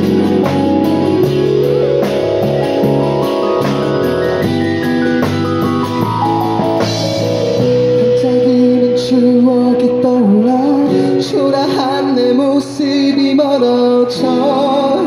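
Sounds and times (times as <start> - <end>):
wavering melody line: 0.0 - 12.3
live rock band playing: 0.0 - 15.0.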